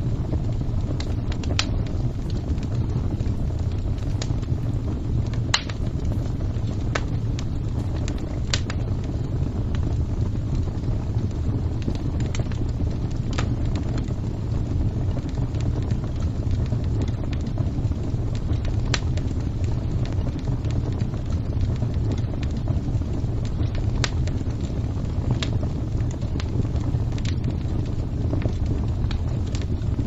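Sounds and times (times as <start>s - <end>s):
fire crackling: 0.0s - 30.0s.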